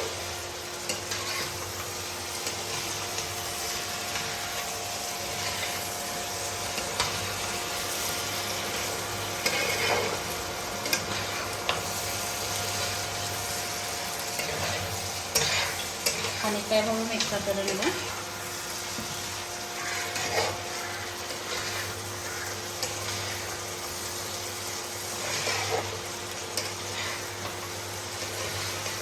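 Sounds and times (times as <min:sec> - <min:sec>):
meat sizzling in a frying pan: 0:00.0 - 0:29.0
spatula scraping a pan: 0:00.8 - 0:13.5, 0:14.2 - 0:18.2, 0:18.8 - 0:29.0.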